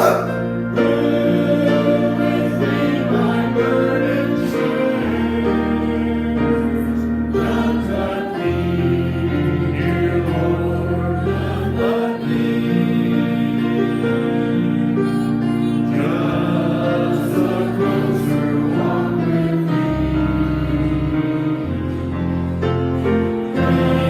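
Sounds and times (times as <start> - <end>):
congregation singing a hymn: 0.0 - 24.0
long held instrumental chords: 0.0 - 24.0.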